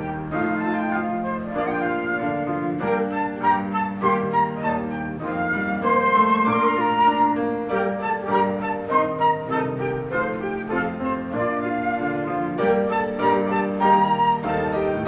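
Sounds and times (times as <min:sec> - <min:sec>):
instrumental ensemble music: 0:00.0 - 0:15.0.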